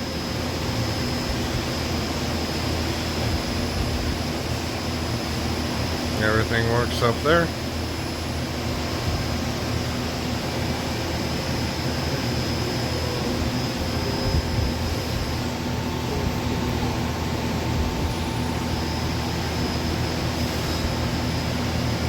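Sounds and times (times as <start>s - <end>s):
machine mechanical hum: 0.0s - 22.0s.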